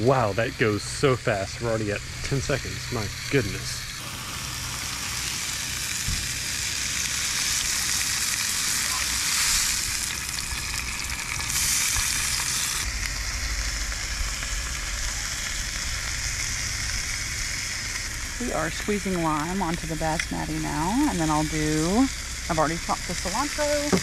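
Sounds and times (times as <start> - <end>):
fish sizzling in a skillet: 0.3 - 24.0.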